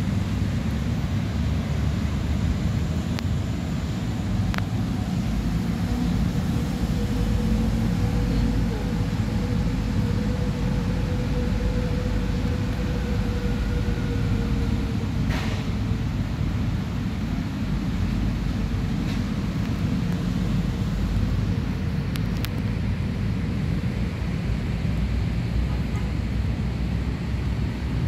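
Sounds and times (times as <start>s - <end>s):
faint steady hum: 0.0s - 28.0s
low outdoor rumble: 0.0s - 28.0s.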